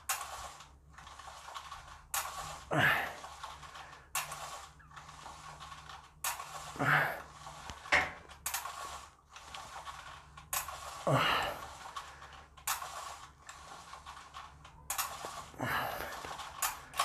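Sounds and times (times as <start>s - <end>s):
sharp mechanical clicks: 0.0s - 17.0s.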